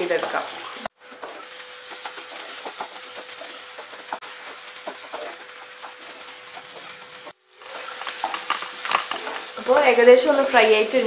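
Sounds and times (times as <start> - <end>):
meat sizzling in a pan: 0.0 - 11.0
wooden spatula stirring: 0.2 - 9.6.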